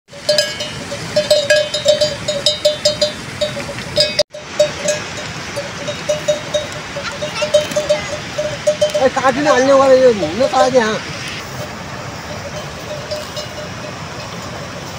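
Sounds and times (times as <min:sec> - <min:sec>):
metal bell clanking: 0:00.2 - 0:09.9, 0:11.6 - 0:14.6.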